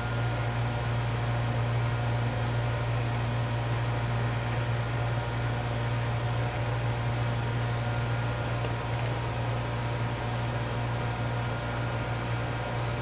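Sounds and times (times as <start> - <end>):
fan humming with hiss: 0.0 - 13.0.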